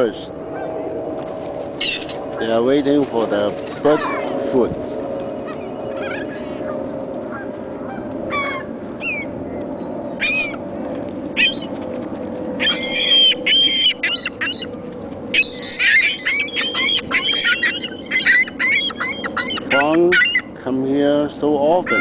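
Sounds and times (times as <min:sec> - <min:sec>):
steady low hum: 0:00.0 - 0:22.0
birds calling harshly: 0:01.7 - 0:10.7, 0:11.3 - 0:11.8, 0:12.6 - 0:22.0.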